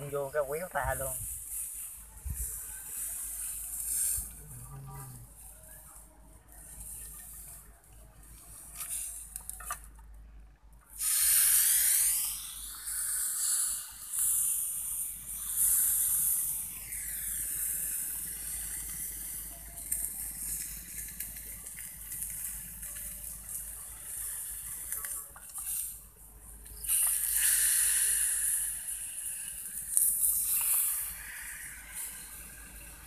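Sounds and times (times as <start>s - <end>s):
meat sizzling under hot iron: 0.0s - 5.9s, 8.3s - 9.8s, 11.0s - 33.0s.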